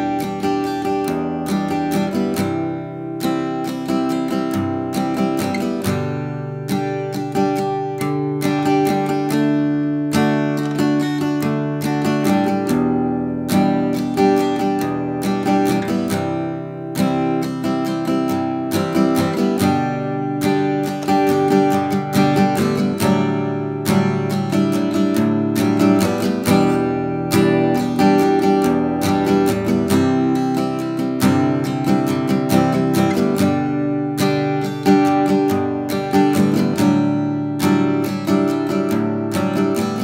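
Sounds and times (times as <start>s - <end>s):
acoustic guitar music: 0.0s - 40.0s.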